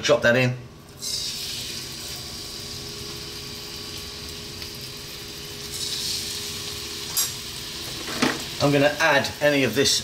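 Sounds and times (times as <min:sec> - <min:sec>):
fish sizzling in a frying pan: 0:01.0 - 0:09.8.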